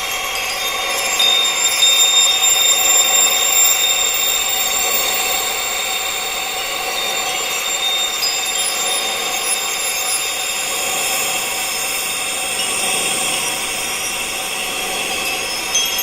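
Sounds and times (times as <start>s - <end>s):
high-pitched held tones: 0.0s - 14.1s
steady wind-like hiss: 0.0s - 16.0s.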